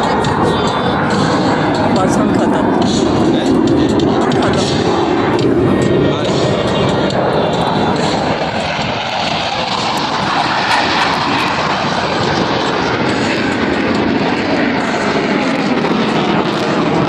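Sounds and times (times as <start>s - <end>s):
jets flying over: 0.0s - 17.0s.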